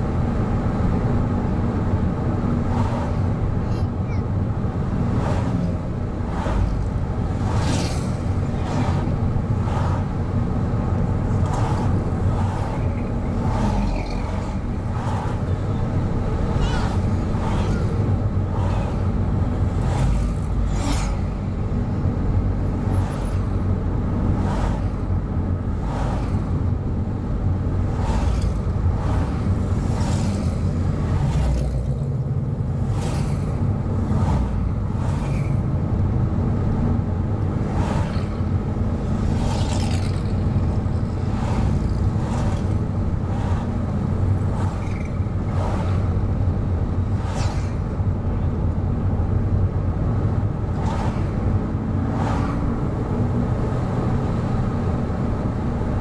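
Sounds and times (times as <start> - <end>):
car engine and road rumble: 0.0 - 56.0
passing car rush: 0.0 - 56.0.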